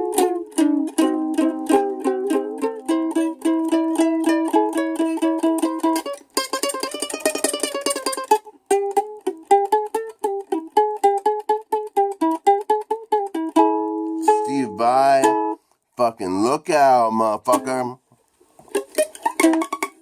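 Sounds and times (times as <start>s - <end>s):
ukulele playing: 0.0s - 18.0s, 18.6s - 20.0s.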